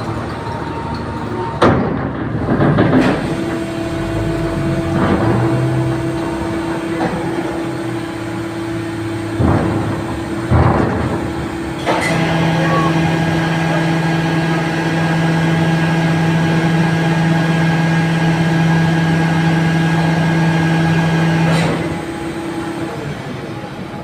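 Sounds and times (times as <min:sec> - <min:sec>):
heavy vehicle engines droning: 0:00.0 - 0:24.0.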